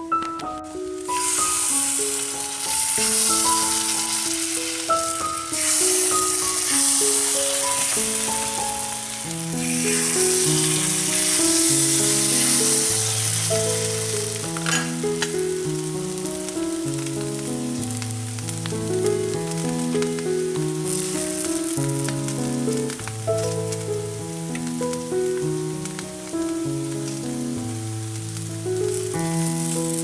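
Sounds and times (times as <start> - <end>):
batter sizzling in hot oil: 0.0 - 30.0
slow background music: 0.0 - 30.0.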